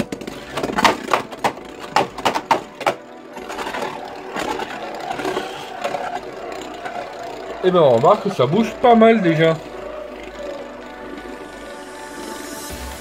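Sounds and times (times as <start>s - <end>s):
spinning top rattling: 0.0s - 12.7s
spinning top whirring on plastic: 0.0s - 12.8s.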